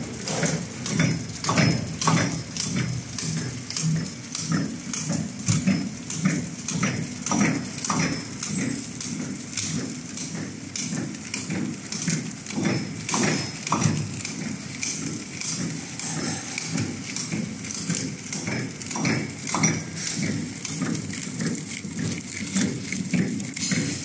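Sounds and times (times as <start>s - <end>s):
packaging machine clacking: 0.1s - 24.0s.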